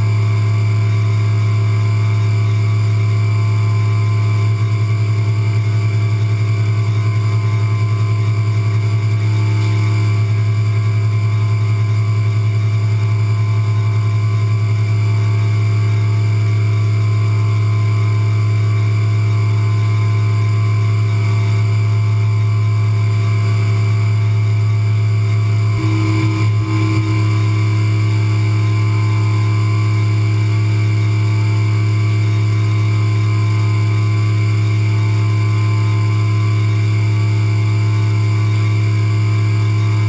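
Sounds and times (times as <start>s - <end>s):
milling machine humming: 0.0s - 40.0s.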